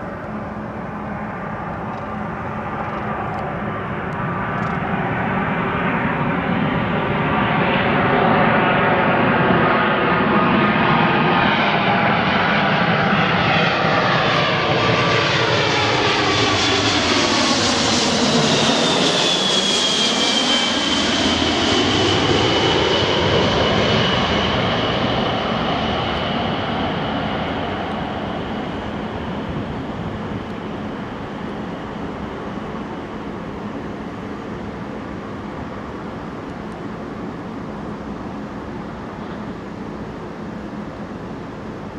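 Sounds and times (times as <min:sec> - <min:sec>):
jet engines passing overhead: 0:00.0 - 0:41.9.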